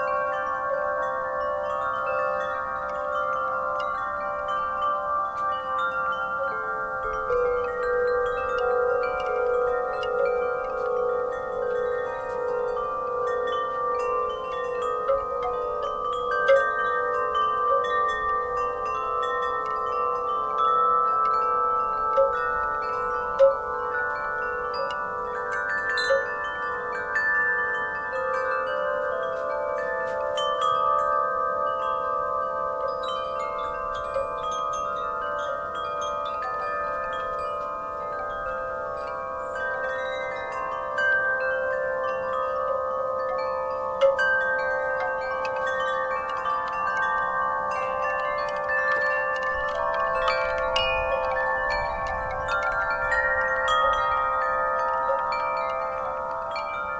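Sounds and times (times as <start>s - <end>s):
wind chimes ringing: 0.0s - 56.9s.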